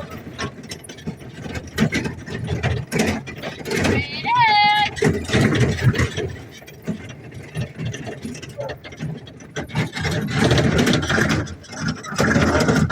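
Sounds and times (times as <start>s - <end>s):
sled cart rattling and clanking: 0.0s - 12.9s.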